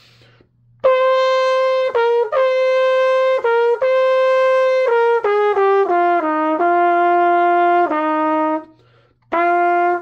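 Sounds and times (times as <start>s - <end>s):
solo trumpet melody: 0.7s - 10.0s.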